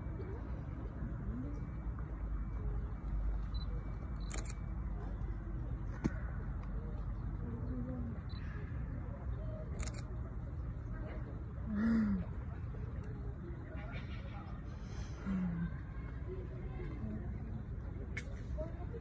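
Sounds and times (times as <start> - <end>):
distant calls or voices: 0.0 - 19.0.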